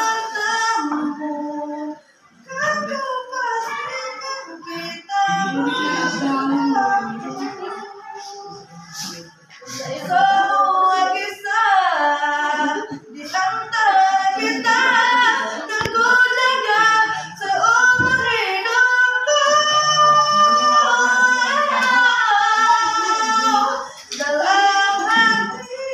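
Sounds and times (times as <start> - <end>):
girl singing: 0.0 - 25.9.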